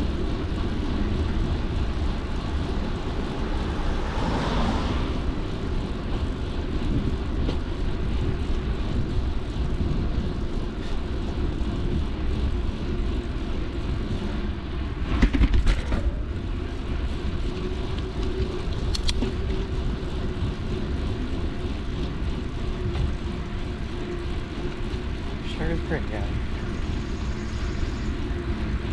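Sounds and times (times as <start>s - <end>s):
bike tyre and drivetrain noise: 0.0s - 28.9s
wind rumble on microphone: 0.0s - 28.9s.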